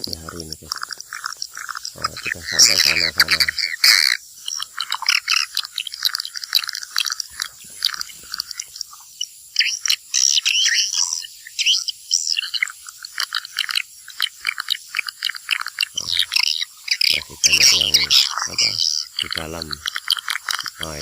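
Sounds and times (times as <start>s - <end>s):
swiftlets twittering: 0.0s - 21.0s.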